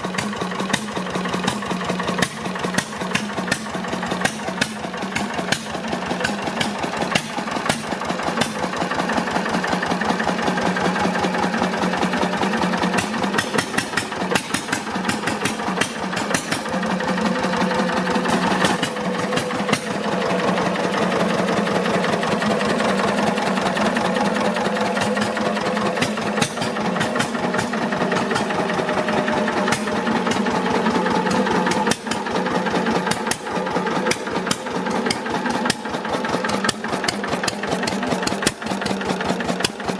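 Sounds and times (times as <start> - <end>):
stationary engine knocking: 0.0 - 39.9.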